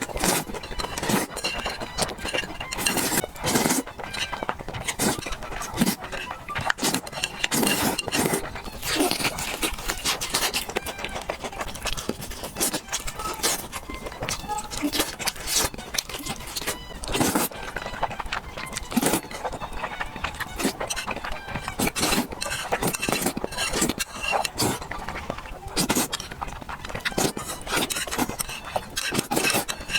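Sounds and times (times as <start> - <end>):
chewing: 0.0 - 29.9
noodle slurping: 0.0 - 29.9.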